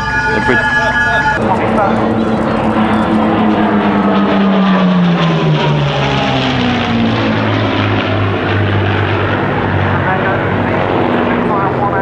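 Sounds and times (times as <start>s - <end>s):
propeller plane engines overhead: 0.0s - 12.0s.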